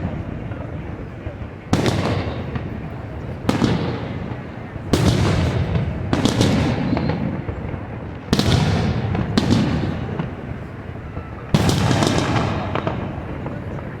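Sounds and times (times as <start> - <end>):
fireworks shells booming: 0.0 - 14.0.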